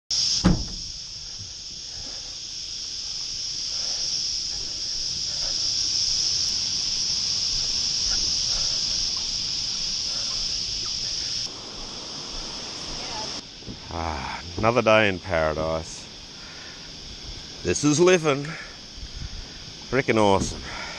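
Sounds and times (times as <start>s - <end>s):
high-pitched insect drone: 0.1s - 20.9s.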